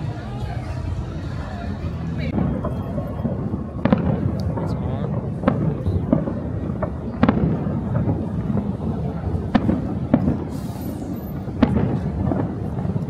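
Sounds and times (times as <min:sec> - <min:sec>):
crackling rumble of fireworks: 0:00.0 - 0:13.0
fireworks shells bursting: 0:02.3 - 0:13.0.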